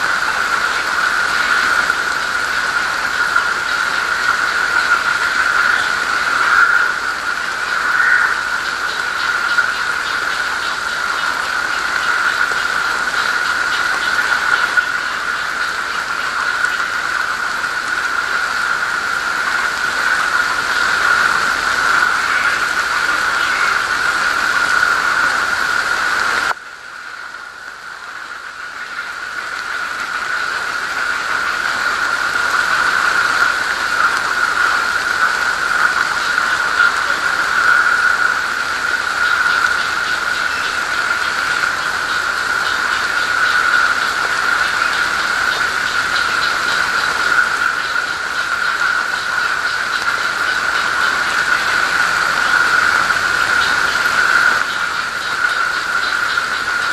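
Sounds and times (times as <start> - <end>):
rain hiss: 0.0 - 56.9.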